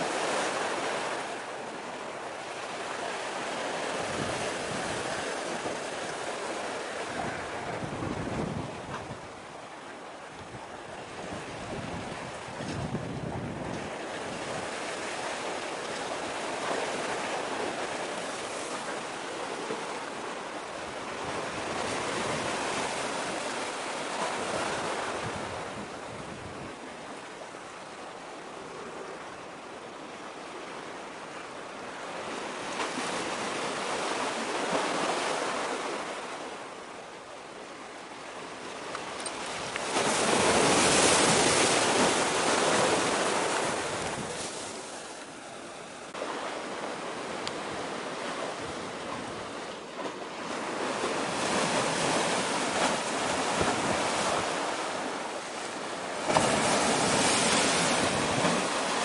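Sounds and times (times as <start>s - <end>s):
sea waves washing against concrete: 0.0s - 27.2s, 38.4s - 59.0s.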